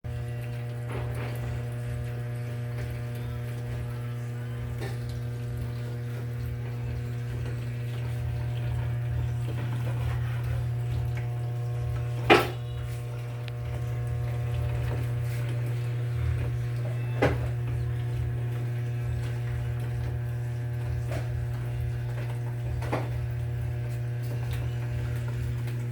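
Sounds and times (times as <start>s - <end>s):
washing machine running: 0.0s - 25.9s
water moving: 0.2s - 25.9s.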